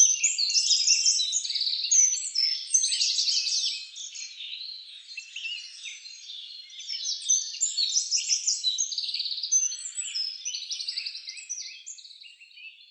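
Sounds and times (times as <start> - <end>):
songbirds chirping and trilling: 0.0 - 12.9.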